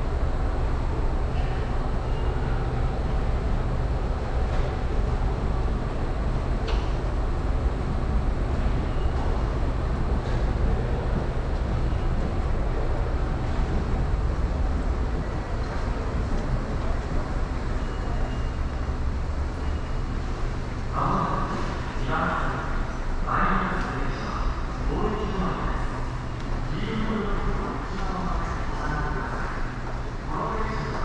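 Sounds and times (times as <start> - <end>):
low rumble of vehicles: 0.0 - 31.0.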